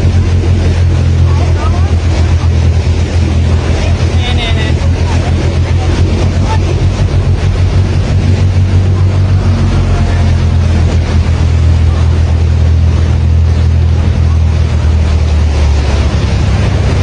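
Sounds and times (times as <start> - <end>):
constant rushing noise: 0.0 - 17.0
large engine droning: 0.0 - 17.0.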